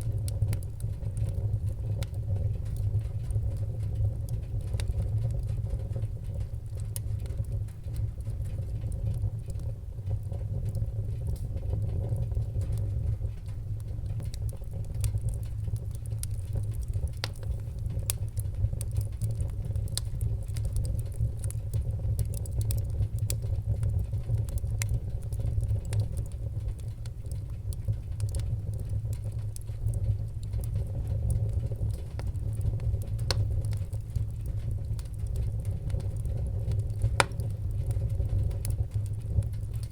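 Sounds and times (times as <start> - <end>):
fire burning low rumble: 0.0 - 39.9
wood fire crackling and popping: 0.0 - 39.9.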